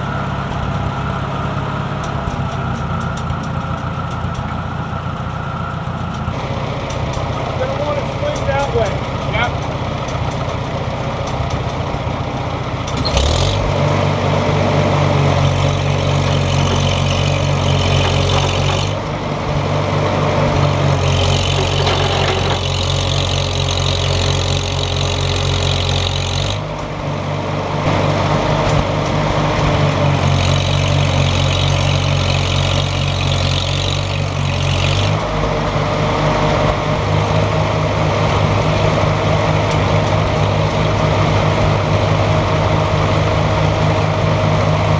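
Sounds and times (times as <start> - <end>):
large vehicle engine running: 0.0 - 44.9.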